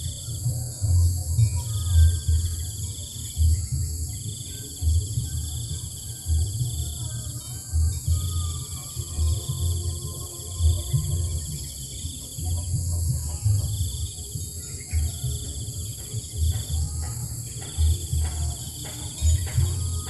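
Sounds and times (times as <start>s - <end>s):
high insect hum: 0.0s - 20.0s
insects trilling: 0.0s - 20.0s.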